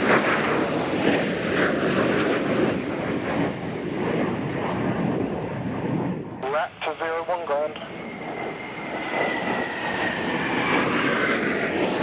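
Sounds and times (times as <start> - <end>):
aircraft engine rushing: 0.0 - 12.0.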